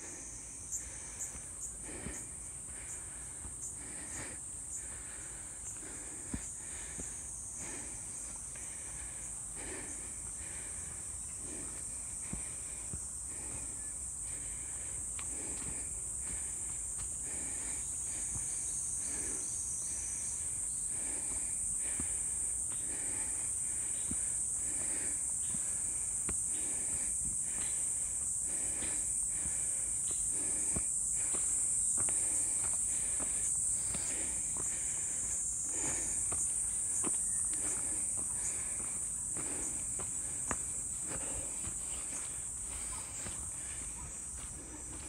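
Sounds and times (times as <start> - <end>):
high-pitched insect chorus: 0.0 - 45.0.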